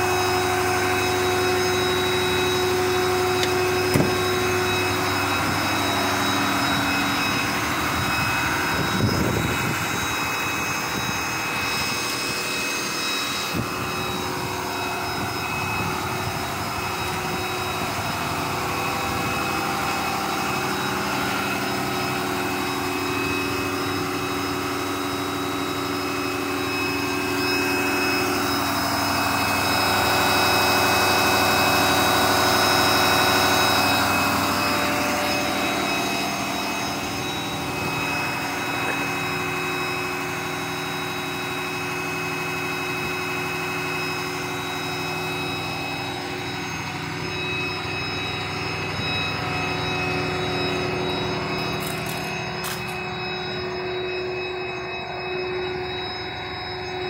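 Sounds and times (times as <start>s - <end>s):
truck engine idling with whine: 0.0s - 57.0s.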